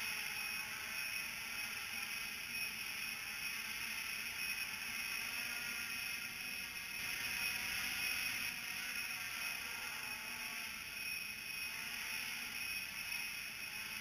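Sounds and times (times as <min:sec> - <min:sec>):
drone propellers whirring: 0:00.0 - 0:14.0.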